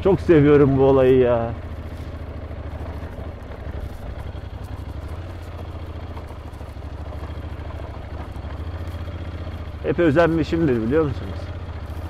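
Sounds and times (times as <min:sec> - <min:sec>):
motorcycle engine low throb: 0:00.0 - 0:12.0.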